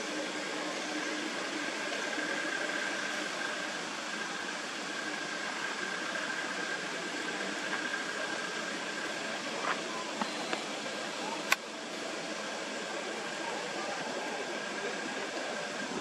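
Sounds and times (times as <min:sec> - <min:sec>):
outdoor ambient hiss: 0:00.0 - 0:16.0.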